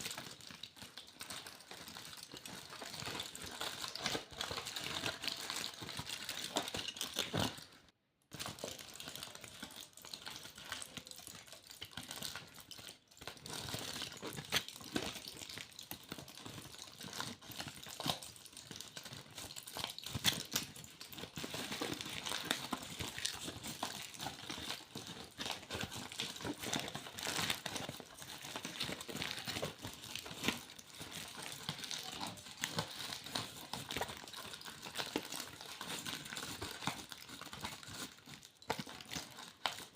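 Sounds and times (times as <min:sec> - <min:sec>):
aluminium foil crinkling: 0:00.0 - 0:39.9.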